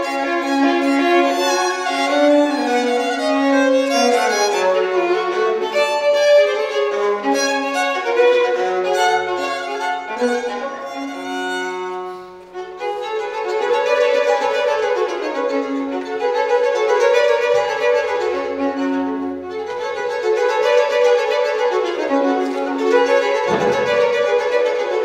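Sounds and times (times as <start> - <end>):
two violins playing a duet: 0.0 - 25.0.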